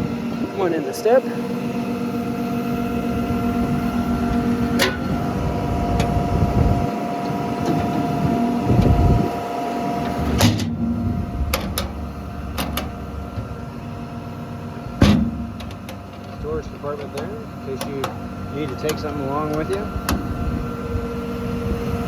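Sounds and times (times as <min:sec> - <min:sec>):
excavator diesel engine idling: 0:00.0 - 0:22.0.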